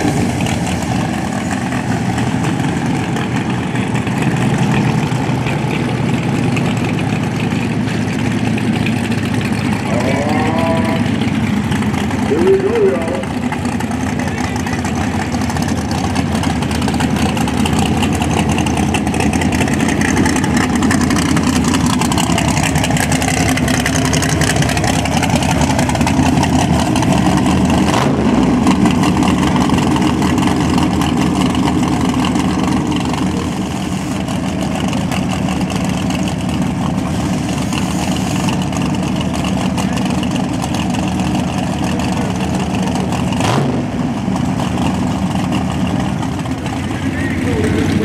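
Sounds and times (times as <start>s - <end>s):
race car engines idling: 0.0s - 48.0s.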